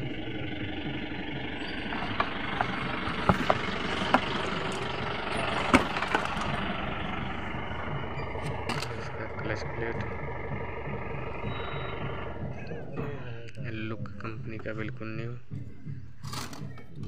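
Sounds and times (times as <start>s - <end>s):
engine-like rumble: 0.0s - 17.0s.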